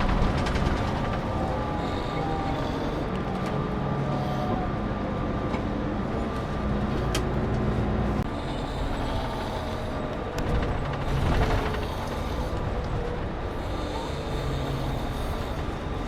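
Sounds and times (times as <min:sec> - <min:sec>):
coach engine hum: 0:00.0 - 0:16.0
road noise: 0:00.0 - 0:16.0.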